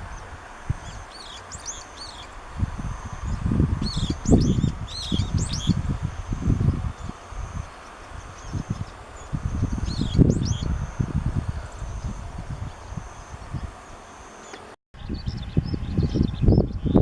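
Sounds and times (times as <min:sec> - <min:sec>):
songbird high chirps: 0:00.1 - 0:17.0.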